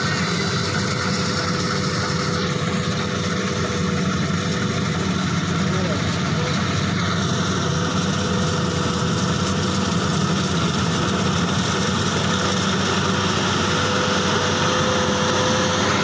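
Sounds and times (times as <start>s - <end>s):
combine harvester engine drone: 0.0s - 16.0s
thin constant whine: 0.0s - 16.0s.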